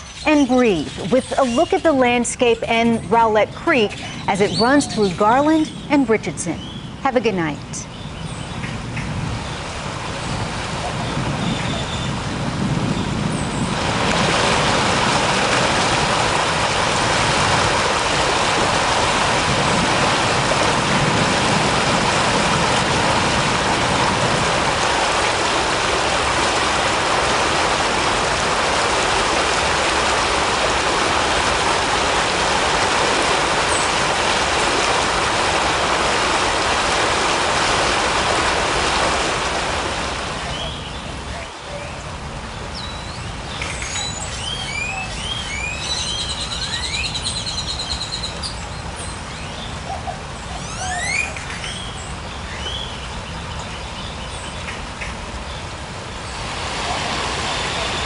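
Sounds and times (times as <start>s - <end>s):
creek water rushing: 8.2s - 58.0s.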